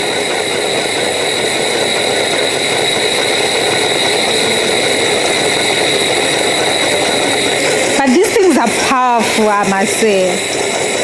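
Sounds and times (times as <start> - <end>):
kitchen appliance motor running: 0.0 - 11.0.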